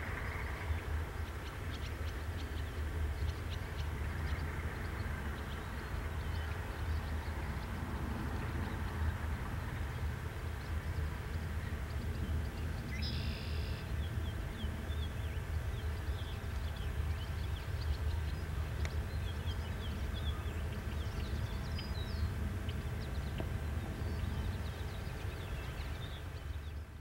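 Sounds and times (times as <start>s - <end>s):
distant diesel locomotive rumble: 0.0s - 27.0s
birds chirping: 0.2s - 27.0s.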